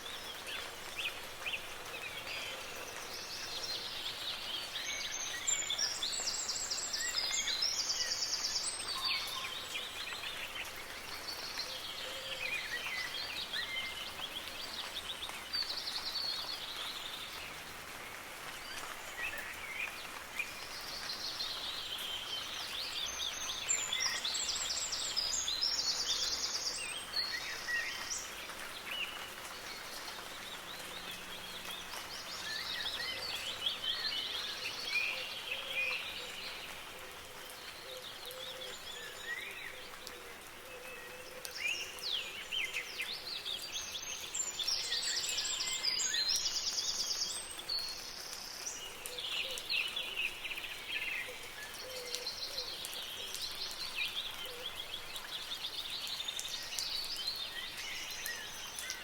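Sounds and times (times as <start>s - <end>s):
soft rain hiss: 0.0s - 59.0s.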